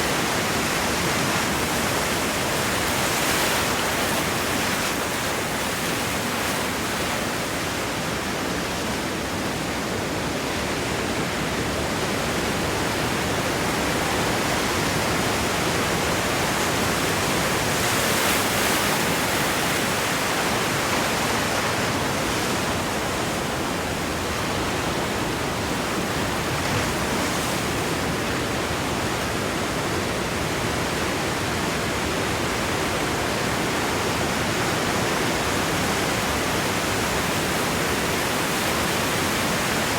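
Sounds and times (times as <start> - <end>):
ocean surf washing over rocks: 0.0 - 39.9.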